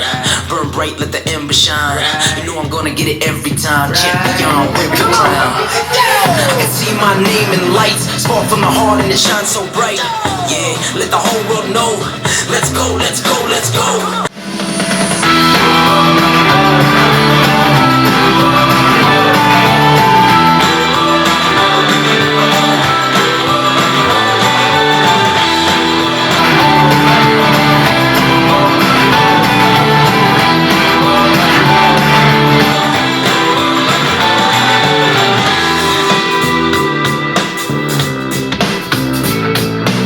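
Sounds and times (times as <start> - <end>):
loud guitar rock music: 0.0 - 40.0.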